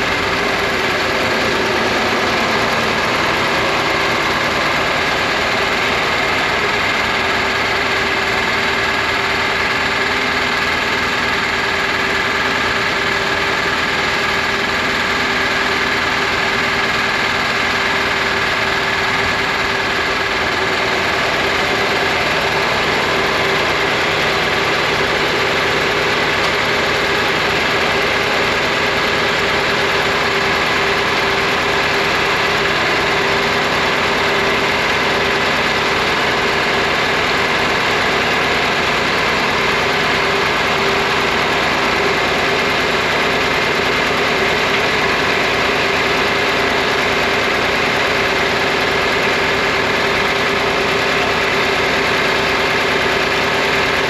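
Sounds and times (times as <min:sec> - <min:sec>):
tractor engines idling: 0:00.0 - 0:54.0.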